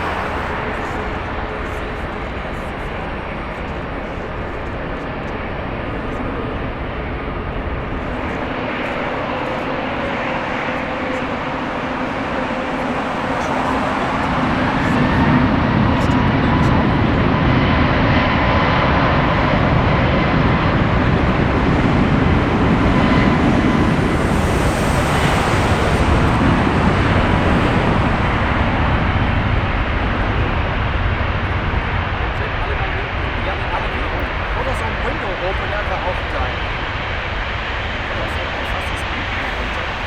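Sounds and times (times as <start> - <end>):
jet airliner engines passing: 0.0 - 40.0.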